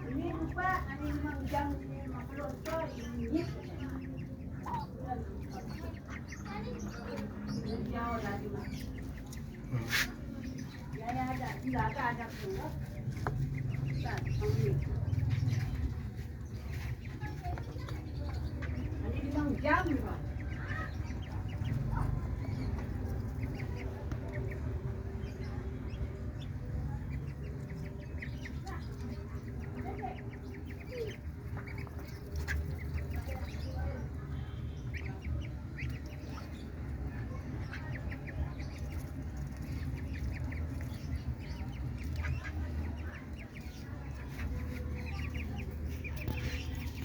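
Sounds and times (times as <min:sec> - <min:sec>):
ducklings pecking at food: 0:00.0 - 0:47.0
low steady rumble: 0:00.0 - 0:47.0.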